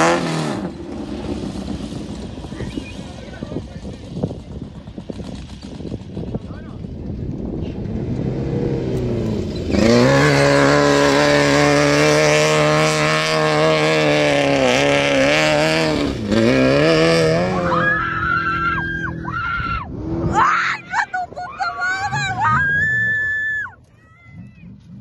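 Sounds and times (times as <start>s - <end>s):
off-road vehicle engine revving: 0.0s - 21.0s, 24.4s - 25.0s.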